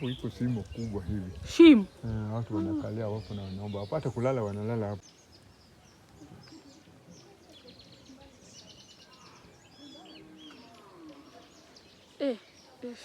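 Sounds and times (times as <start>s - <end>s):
birds chirping and trilling: 0.0s - 13.0s
faint distant voices: 0.0s - 13.0s.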